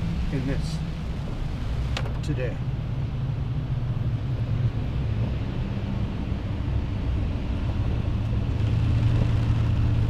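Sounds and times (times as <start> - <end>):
car engine and road hum: 0.0 - 10.0.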